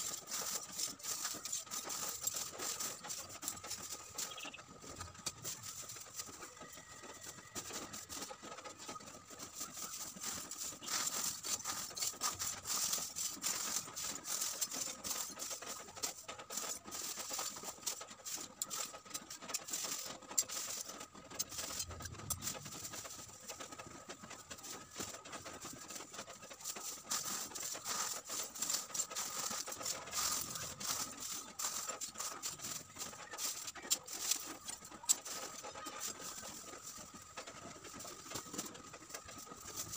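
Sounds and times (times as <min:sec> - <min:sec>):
charcoal pieces clinking and rattling: 0:00.0 - 0:04.3, 0:09.5 - 0:23.8, 0:24.4 - 0:39.9
plastic bag crinkling: 0:00.0 - 0:39.9.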